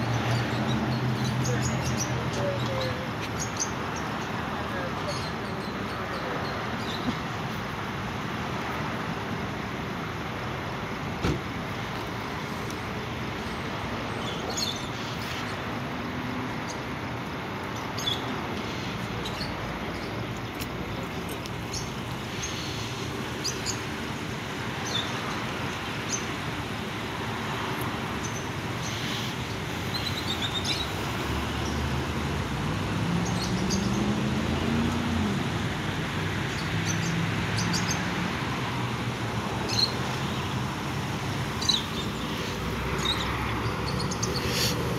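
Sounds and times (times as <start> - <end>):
traffic noise: 0.0 - 44.9.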